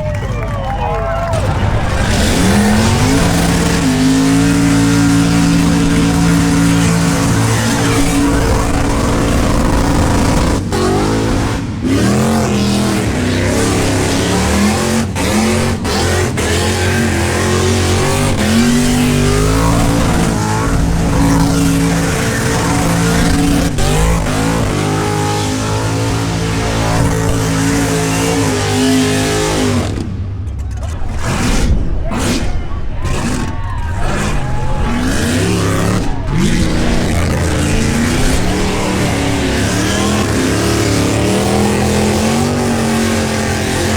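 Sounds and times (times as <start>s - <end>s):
car engine revving: 0.0s - 43.9s
spinning tires rushing: 0.0s - 43.9s.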